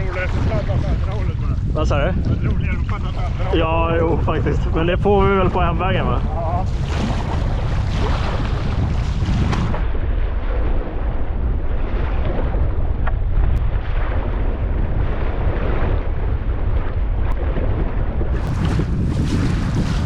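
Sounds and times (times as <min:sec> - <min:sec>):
choppy sea waves splashing: 0:00.0 - 0:20.0
wind buffeting microphone: 0:00.0 - 0:20.0.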